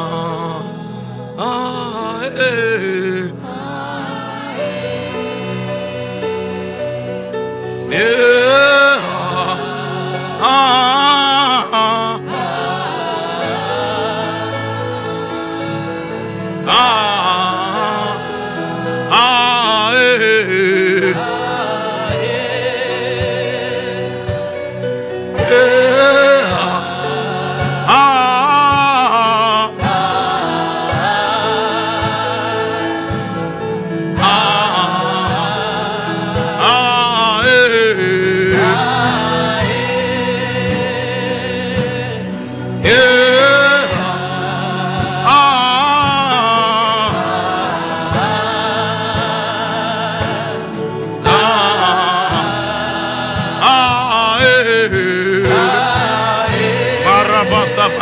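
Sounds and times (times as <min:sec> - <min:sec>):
gospel singing: 0:00.0 - 0:58.0
sustained backing music: 0:00.0 - 0:58.0.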